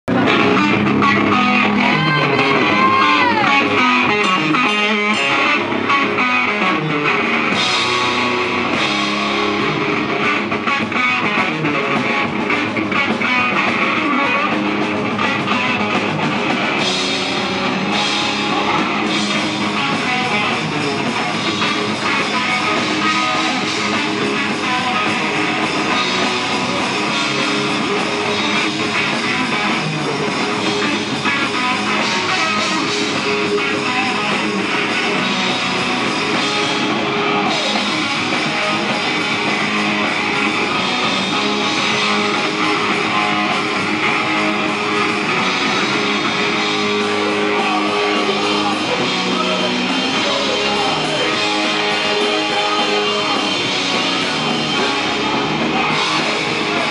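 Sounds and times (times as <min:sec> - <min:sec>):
electric guitars: 0:00.0 - 0:56.9
live rock band playing: 0:00.0 - 0:56.9
drum kit: 0:00.1 - 0:56.9.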